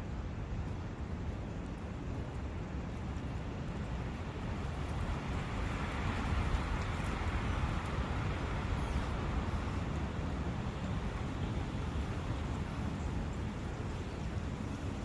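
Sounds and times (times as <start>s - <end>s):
rushing water: 0.1s - 15.0s.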